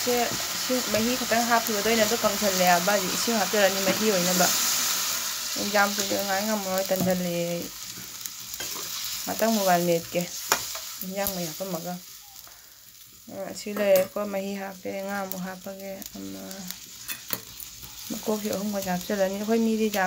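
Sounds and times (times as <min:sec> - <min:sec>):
curry sizzling in wok: 0:00.0 - 0:20.0.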